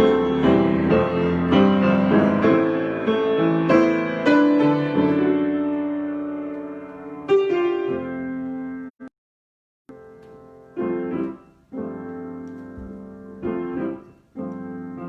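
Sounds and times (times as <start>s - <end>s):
solo piano chords: 0.0s - 9.0s, 9.9s - 15.0s.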